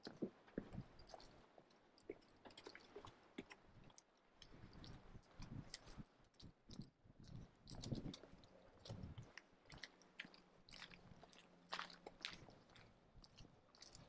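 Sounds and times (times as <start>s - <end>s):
small clicks and scuffs: 0.0s - 14.0s.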